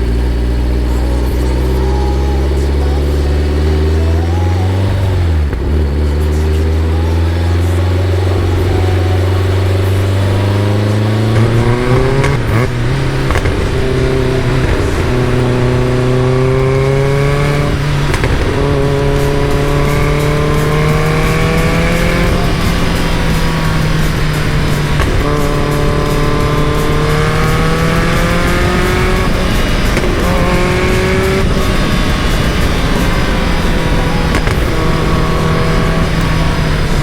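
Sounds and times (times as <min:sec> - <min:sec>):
car engine pulling under load: 0:00.0 - 0:37.0.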